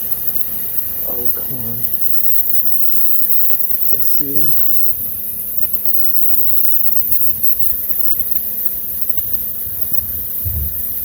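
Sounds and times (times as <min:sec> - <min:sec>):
constant hiss: 0:00.0 - 0:11.0
mechanical hum: 0:00.0 - 0:11.0.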